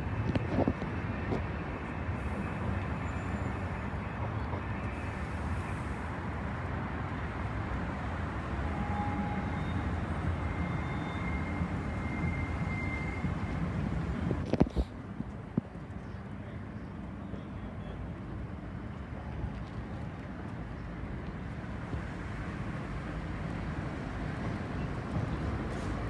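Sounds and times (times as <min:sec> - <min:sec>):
traffic rumble: 0:00.0 - 0:26.0
tram running on track: 0:00.0 - 0:26.0.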